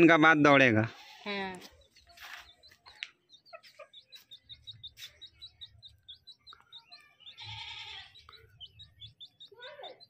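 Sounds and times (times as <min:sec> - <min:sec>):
small bird chirping rapidly: 0:00.9 - 0:10.0.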